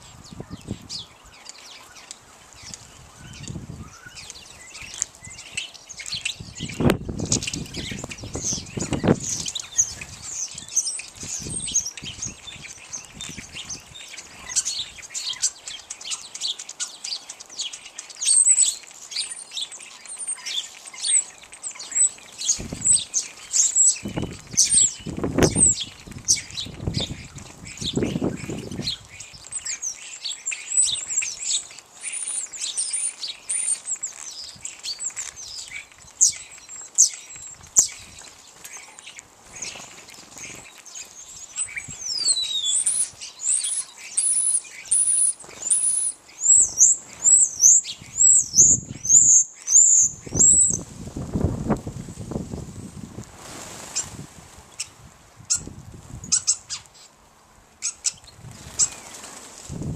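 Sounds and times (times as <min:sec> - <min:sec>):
goldfinches twittering: 0:00.0 - 0:50.8.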